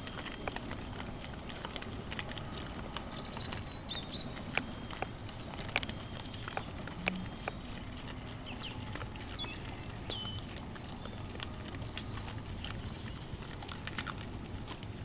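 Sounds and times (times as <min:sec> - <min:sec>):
boar chewing and rooting: 0:00.0 - 0:15.0
hooves shuffling on ground: 0:00.0 - 0:15.0.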